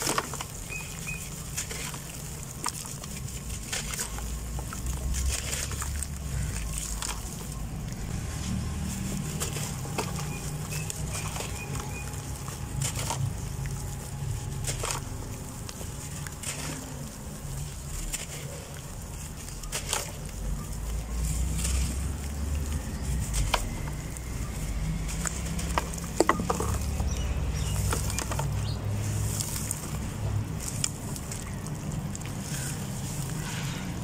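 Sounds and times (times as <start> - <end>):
dirt lumps crackling: 0.0 - 34.0
grit pattering into a tub: 0.0 - 34.0.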